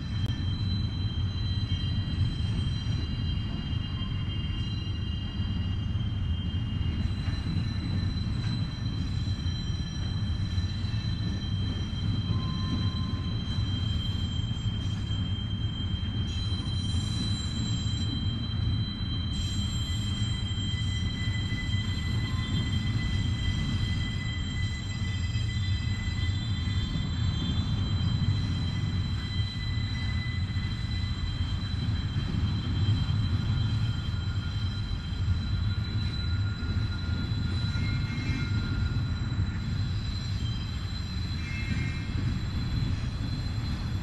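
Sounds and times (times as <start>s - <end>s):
high-pitched wheel squeal: 0.0s - 44.0s
train cars rumbling on rails: 0.0s - 44.0s.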